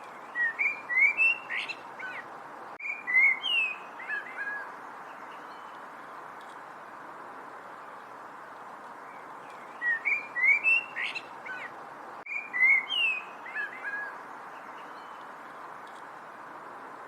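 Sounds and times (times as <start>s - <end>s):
songbird singing: 0.0s - 6.7s, 7.6s - 17.0s
steady background hiss: 0.0s - 17.0s.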